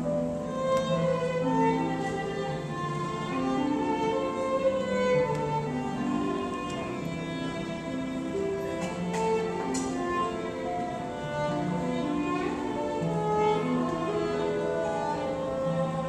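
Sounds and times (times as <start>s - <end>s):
slow string music: 0.0s - 16.0s.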